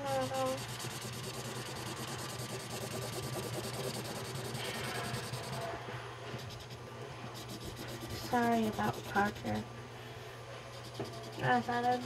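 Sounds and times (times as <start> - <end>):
marker scratching on paper: 0.0 - 5.7, 6.4 - 9.6, 10.7 - 12.0.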